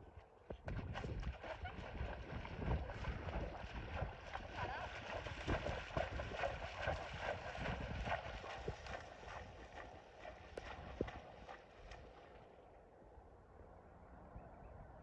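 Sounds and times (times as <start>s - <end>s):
hooves splashing through water: 0.0s - 12.9s.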